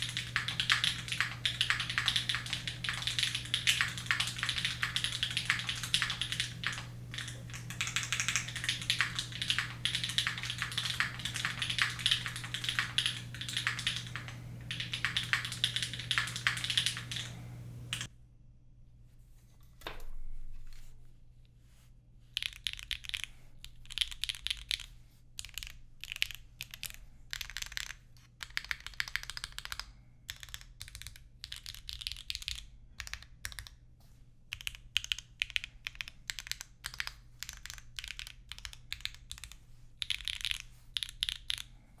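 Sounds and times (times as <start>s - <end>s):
mechanical keyboard typing: 0.0s - 18.1s, 22.4s - 33.8s, 34.5s - 41.7s.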